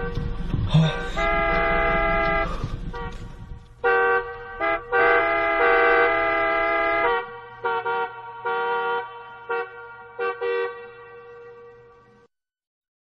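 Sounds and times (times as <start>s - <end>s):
car horn honking: 0.0s - 12.3s.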